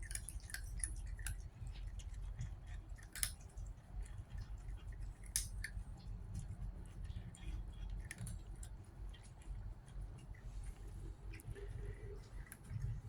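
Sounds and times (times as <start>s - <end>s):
cat crunching food: 0.0s - 13.0s.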